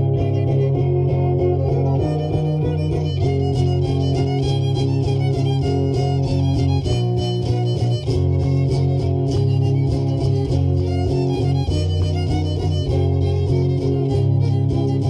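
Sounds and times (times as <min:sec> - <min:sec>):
violin and guitar music: 0:00.0 - 0:15.0.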